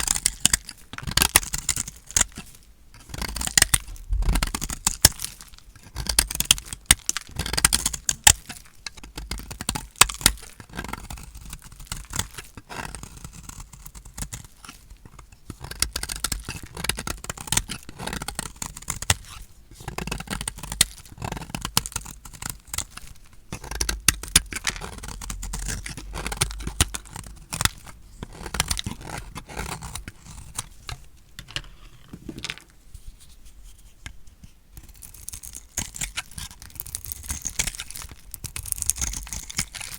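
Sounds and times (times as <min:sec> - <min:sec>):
knife cutting dry soap: 0:00.0 - 0:31.1, 0:34.8 - 0:39.9.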